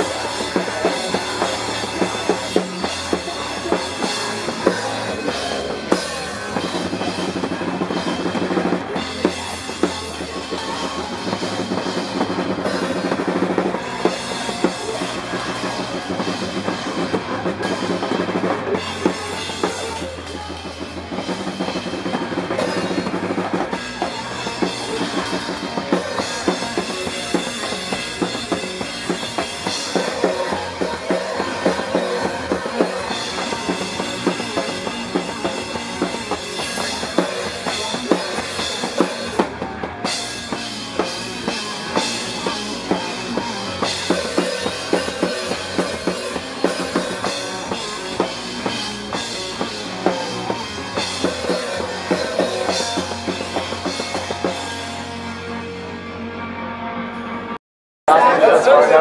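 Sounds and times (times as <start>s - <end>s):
bass line: 0.0s - 59.0s
live rock band playing: 0.0s - 59.0s.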